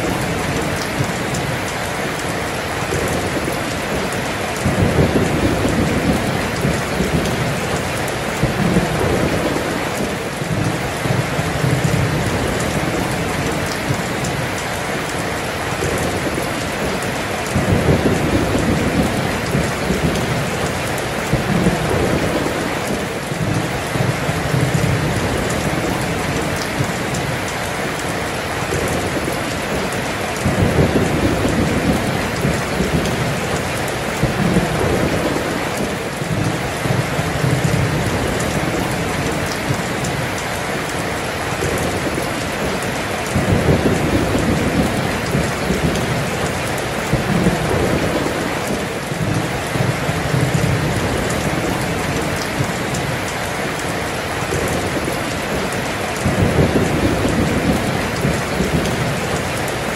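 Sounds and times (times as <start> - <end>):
heavy rain pouring: 0.0 - 59.9
rolling thunder: 2.3 - 14.4, 15.7 - 27.5, 28.1 - 40.4, 41.6 - 53.2, 54.4 - 59.5.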